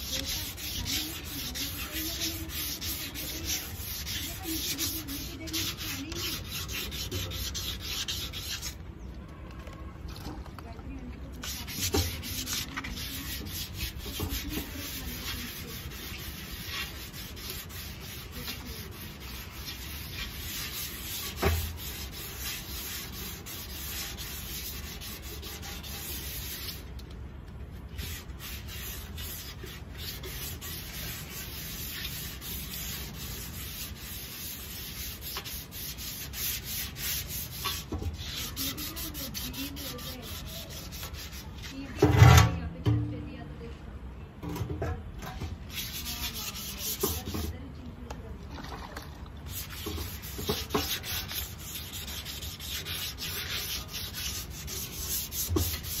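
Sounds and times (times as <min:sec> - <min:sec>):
sandpaper scratching on metal: 0:00.0 - 0:08.8, 0:11.3 - 0:26.9, 0:27.9 - 0:42.3, 0:45.6 - 0:47.6, 0:49.5 - 0:56.0.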